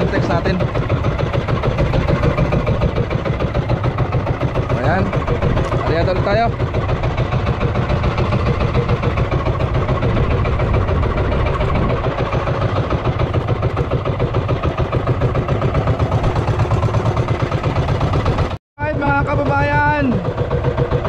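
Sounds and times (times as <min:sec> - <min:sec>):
boat engine pulsing: 0:00.0 - 0:21.0.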